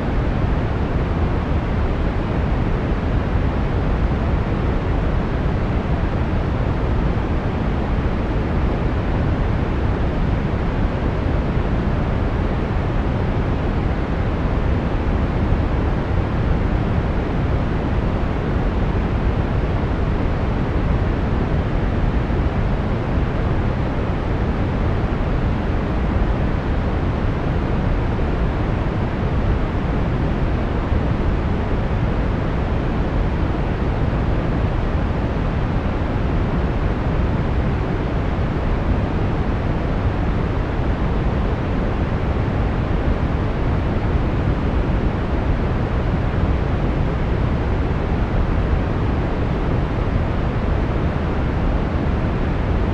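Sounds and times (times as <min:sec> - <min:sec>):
brown noise: 0:00.0 - 0:52.9.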